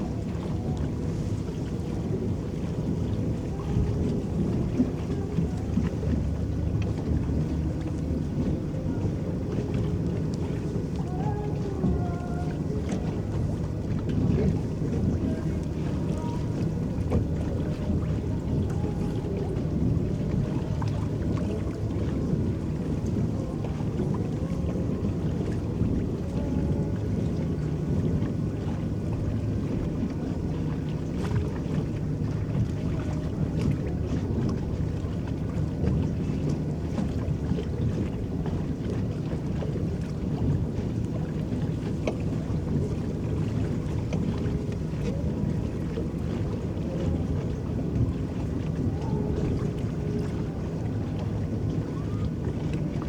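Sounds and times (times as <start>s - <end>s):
water churning around hull: 0.0s - 53.0s.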